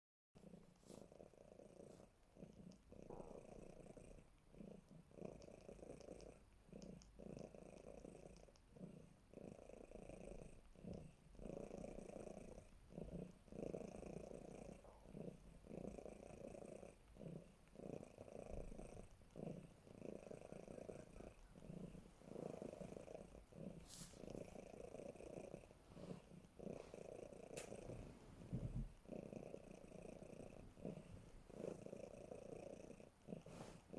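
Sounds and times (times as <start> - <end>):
cat snoring: 0.4 - 33.9.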